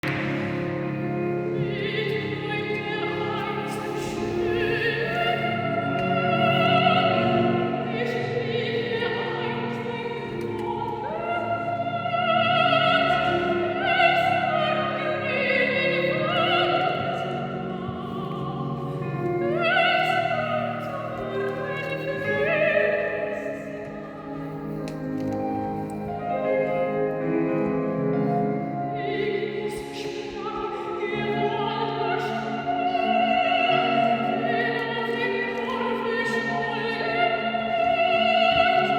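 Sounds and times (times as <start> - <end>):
woman singing operatically: 1.4 - 24.8, 25.4 - 38.9.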